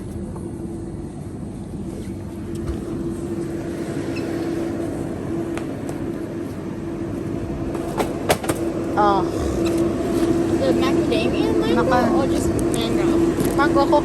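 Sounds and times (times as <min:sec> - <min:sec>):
refrigeration hum: 0:00.0 - 0:14.0.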